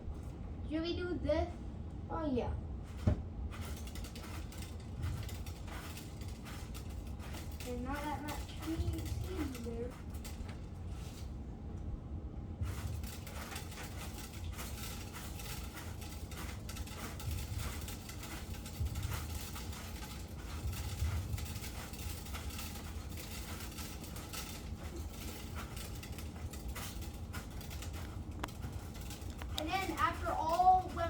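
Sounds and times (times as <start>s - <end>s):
small clicks and rattles: 2.8s - 11.9s, 12.6s - 31.0s.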